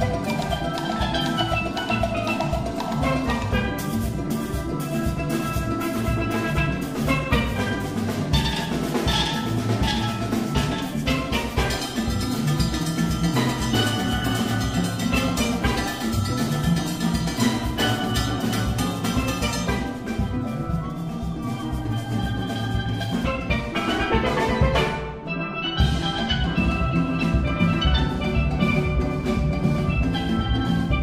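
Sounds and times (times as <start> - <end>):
drum kit and congas beat: 0.0 - 31.0
steelpan orchestra playing: 0.0 - 31.0.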